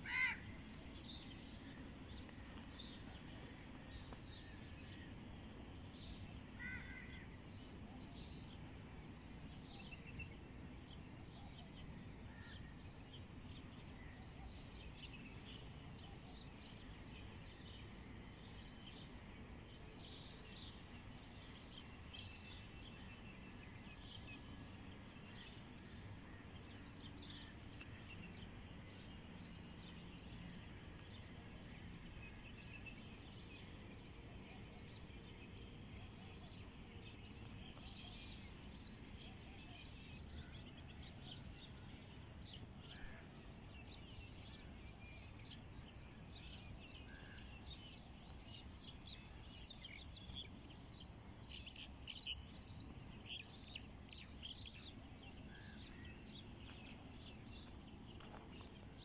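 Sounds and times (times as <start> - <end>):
low outdoor background rumble: 0.0 - 59.0
small birds chirping: 0.0 - 59.0.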